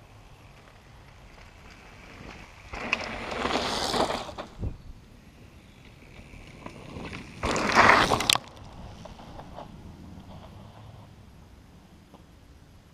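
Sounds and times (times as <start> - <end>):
bike tyres on trail: 0.0 - 12.9.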